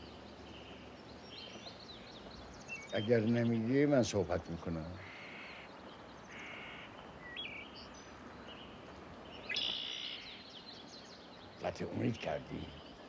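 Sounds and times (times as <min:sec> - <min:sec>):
birds calling: 0:00.0 - 0:13.0
faint steady background hiss: 0:00.0 - 0:13.0.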